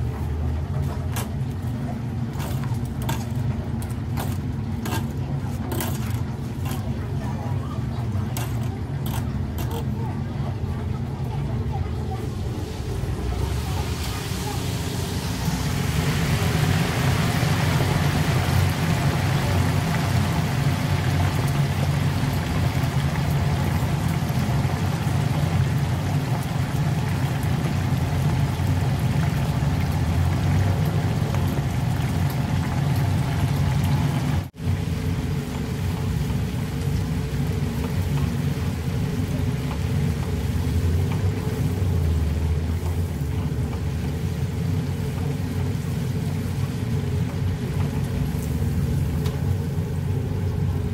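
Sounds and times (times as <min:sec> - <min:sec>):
oil bubbling and sizzling: 0:00.0 - 0:50.9.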